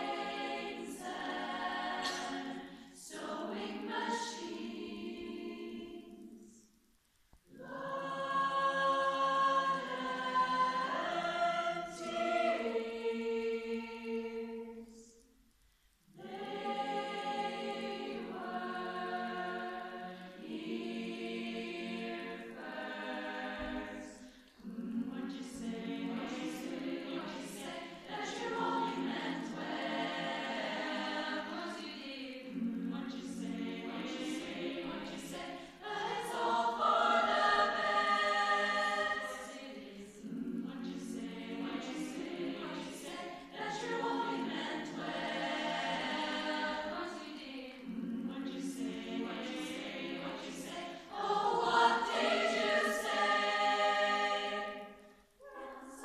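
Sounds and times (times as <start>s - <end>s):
women's choir singing: 0.0s - 6.8s, 7.5s - 15.2s, 16.1s - 56.0s.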